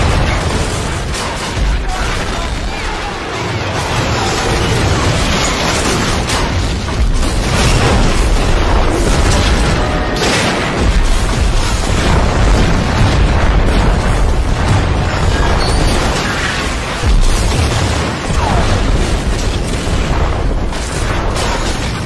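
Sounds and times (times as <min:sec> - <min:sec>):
explosions booming: 0:00.0 - 0:22.0.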